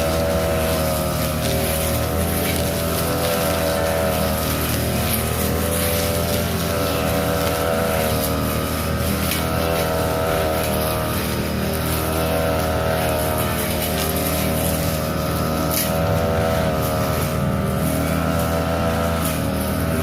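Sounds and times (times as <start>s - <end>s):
lawn mower engine cutting grass: 0.0s - 20.0s.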